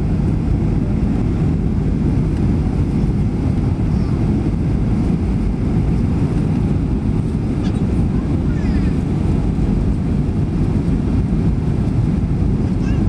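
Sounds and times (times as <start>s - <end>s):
airliner engines and airflow rumble: 0.0s - 13.0s.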